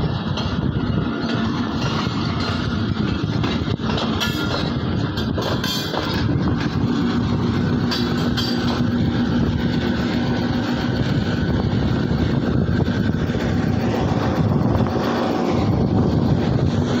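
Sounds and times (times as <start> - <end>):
diesel locomotive engine drone: 0.0 - 17.0
train wheels rumbling on rails: 0.0 - 17.0.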